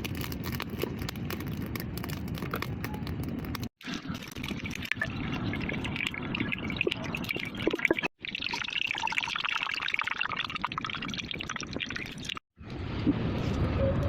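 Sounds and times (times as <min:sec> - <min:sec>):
liquid pouring and trickling: 0:00.0 - 0:12.4.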